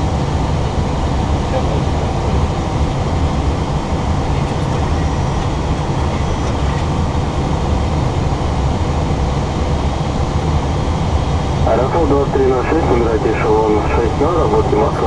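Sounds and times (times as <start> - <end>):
cockpit airflow and engine rumble: 0.0 - 15.0.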